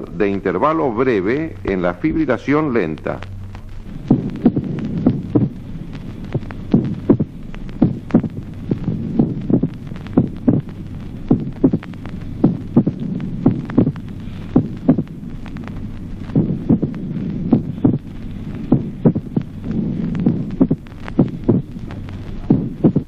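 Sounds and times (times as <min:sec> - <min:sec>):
steady low hum: 0:00.0 - 0:23.0
irregular heart sounds: 0:03.0 - 0:23.0.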